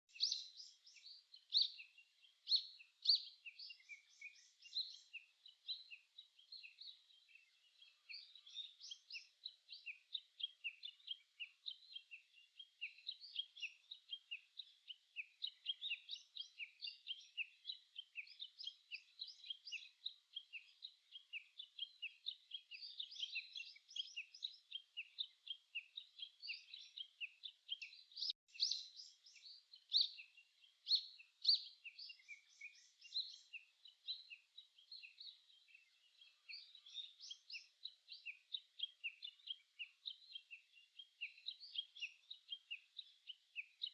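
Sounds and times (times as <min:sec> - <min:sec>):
small birds chirping and singing: 0:00.0 - 0:43.9.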